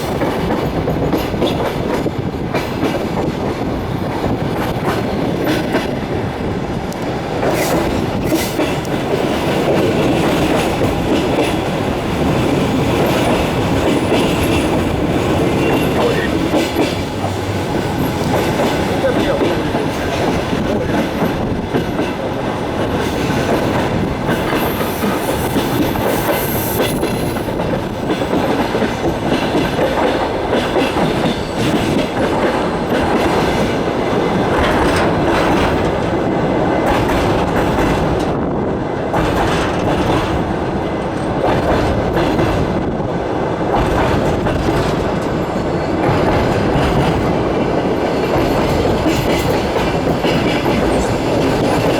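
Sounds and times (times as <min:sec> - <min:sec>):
train wheels clattering: 0:00.0 - 0:51.9.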